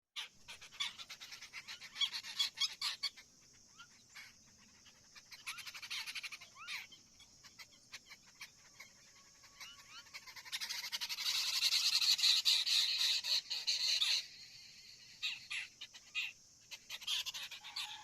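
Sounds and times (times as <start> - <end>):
myna chattering and whistling: 0.2 - 18.0
steady high hiss: 0.3 - 17.7.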